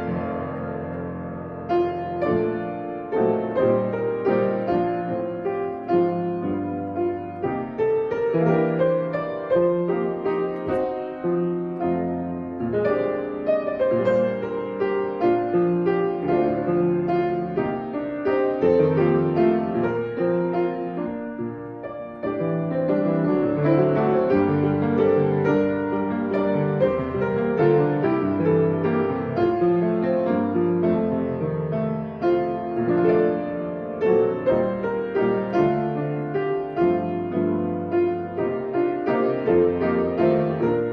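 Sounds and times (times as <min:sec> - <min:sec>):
solo piano playing slow chords: 0:00.0 - 0:40.9.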